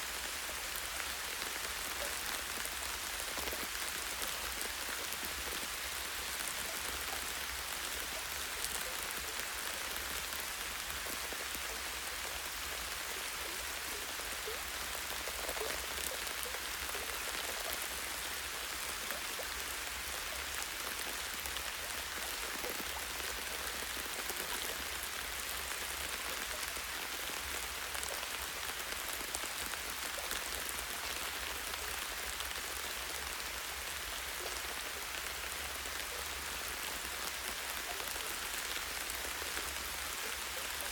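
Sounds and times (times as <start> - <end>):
rain pattering on leaves: 0.1 - 40.9.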